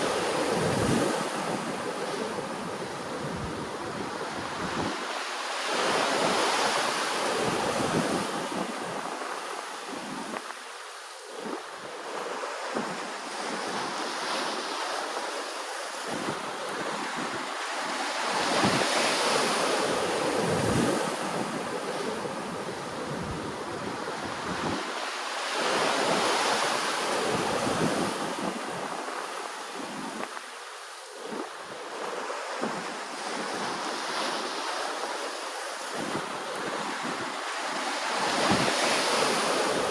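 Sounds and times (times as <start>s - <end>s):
ocean waves washing on shore: 0.0s - 39.9s.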